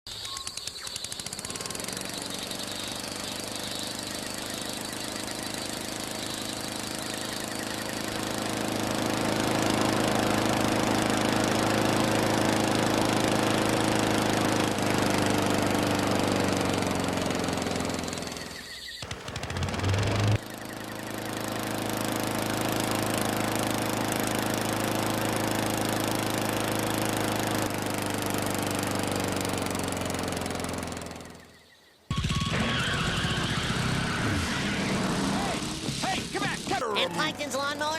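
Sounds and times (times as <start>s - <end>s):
lawn mower engine running: 0.1s - 31.6s, 32.5s - 37.9s.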